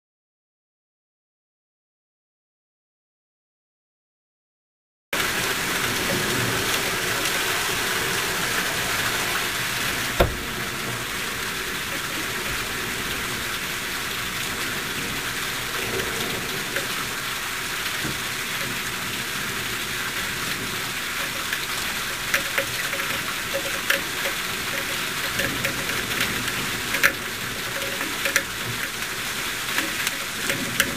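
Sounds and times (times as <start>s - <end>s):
rain falling: 5.2s - 30.9s.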